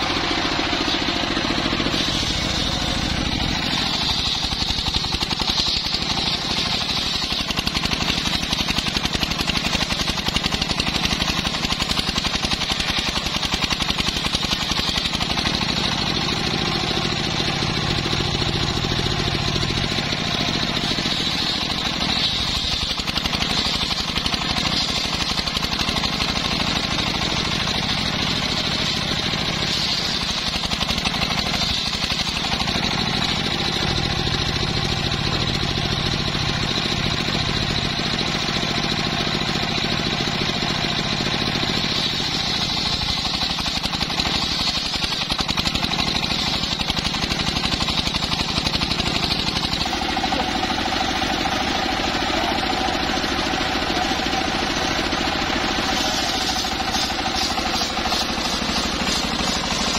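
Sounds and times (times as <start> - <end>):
saw blade hissing through wood: 0.0 - 35.7, 40.9 - 59.9
engine running: 0.0 - 59.9.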